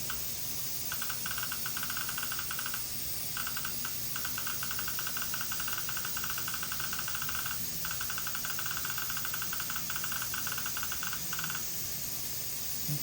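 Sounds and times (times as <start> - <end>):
rapid high beeps: 0.0 - 11.8.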